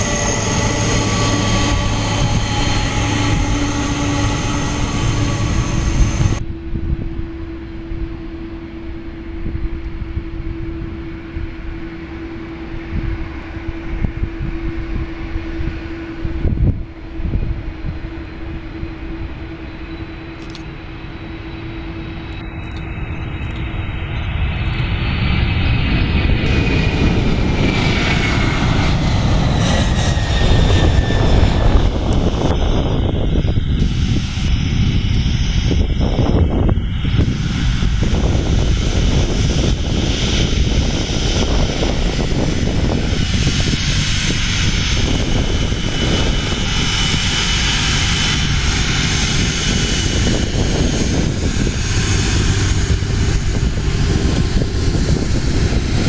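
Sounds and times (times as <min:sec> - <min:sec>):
airliner engines rumbling: 0:00.0 - 0:56.0
high engine whine: 0:00.0 - 0:56.0
steady low hum: 0:00.0 - 0:56.0.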